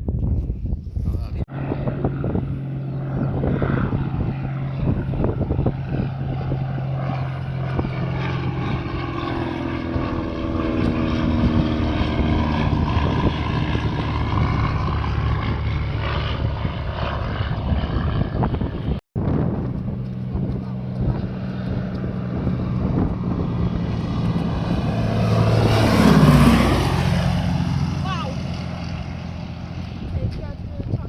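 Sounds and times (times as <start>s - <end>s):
wind buffeting microphone: 0.0s - 31.0s
propeller plane flying past: 1.5s - 31.0s.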